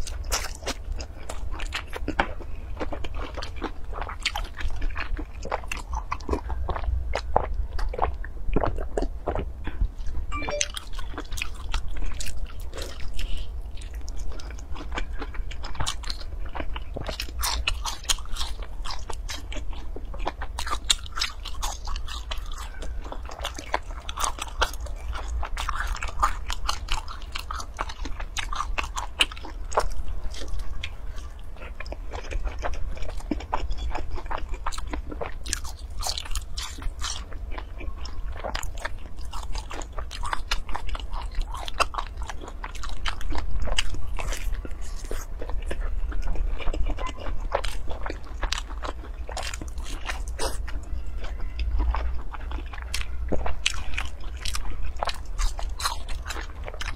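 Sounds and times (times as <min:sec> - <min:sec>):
chewing crunchy pastry: 0:00.0 - 0:56.9.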